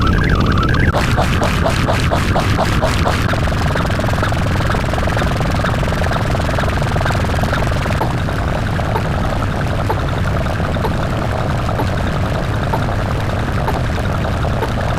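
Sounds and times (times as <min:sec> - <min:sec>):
helicopter rotor chopping: 0:00.0 - 0:14.9.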